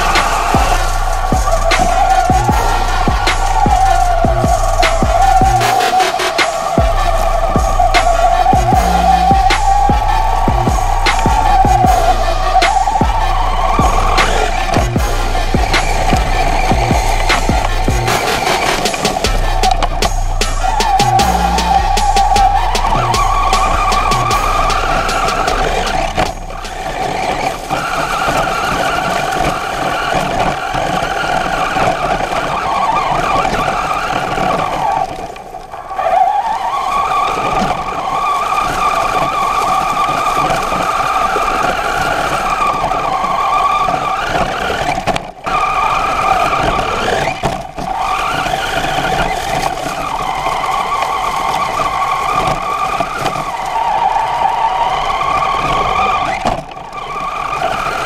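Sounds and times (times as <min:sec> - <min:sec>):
toy truck motor whining: 0:00.0 - 0:58.0.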